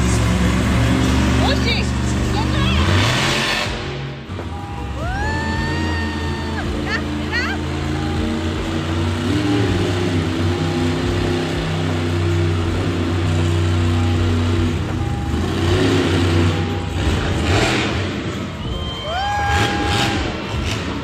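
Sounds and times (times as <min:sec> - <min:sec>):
truck engine revving high: 0:00.0 - 0:21.0.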